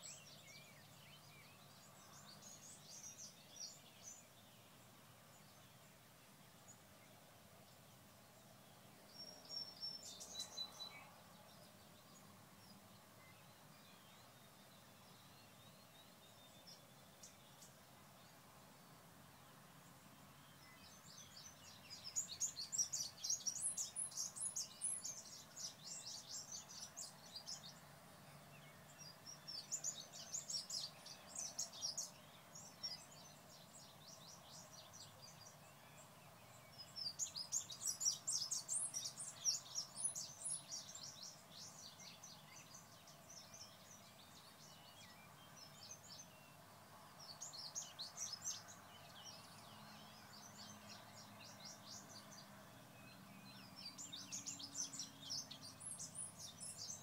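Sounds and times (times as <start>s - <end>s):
songbird singing rapid chirps: 0.0s - 57.0s.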